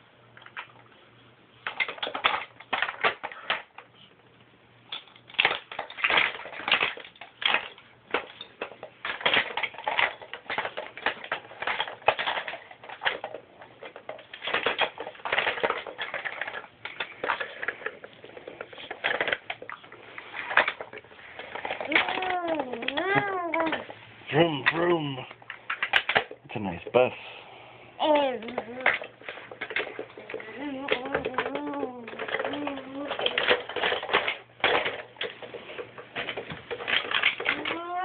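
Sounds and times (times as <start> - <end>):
plastic toys clattering: 0.3 - 0.9, 1.6 - 4.1, 4.8 - 27.2, 28.0 - 38.0.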